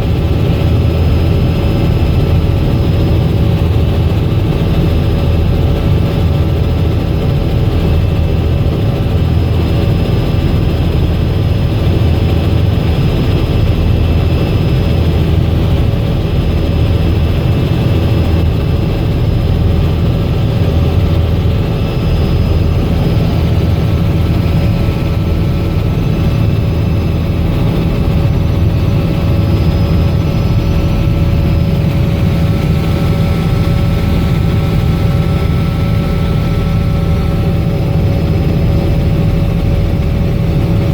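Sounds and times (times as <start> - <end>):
helicopter engine and rotor rumble: 0.0 - 40.9.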